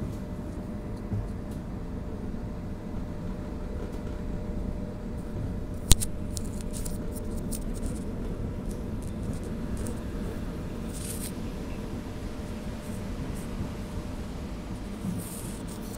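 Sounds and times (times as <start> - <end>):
tram interior rumble: 0.0 - 15.9.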